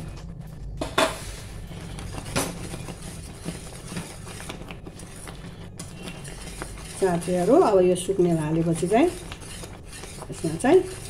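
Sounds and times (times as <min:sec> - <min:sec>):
low hum: 0:00.0 - 0:09.3
whisk stirring thick mixture: 0:00.0 - 0:11.0
whisk clicking against pan: 0:02.0 - 0:11.0.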